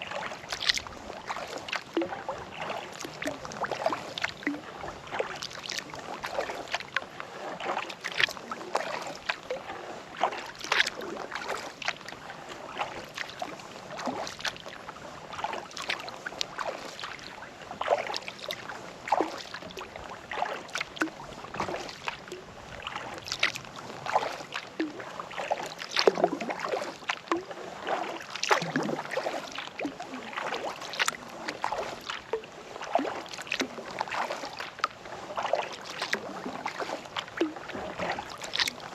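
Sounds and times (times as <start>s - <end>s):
paddle dipping through water: 0.0s - 38.9s
water splashes and drips: 0.0s - 38.9s.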